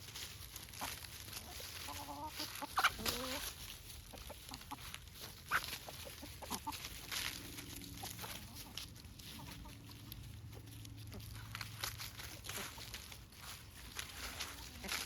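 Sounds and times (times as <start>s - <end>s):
chickens clucking: 0.3s - 15.0s.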